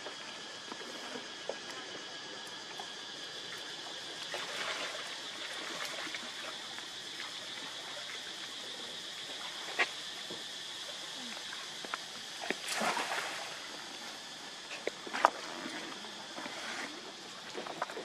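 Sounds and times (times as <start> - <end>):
steady background hiss: 0.0 - 18.0
water rippling and lapping: 0.2 - 18.0.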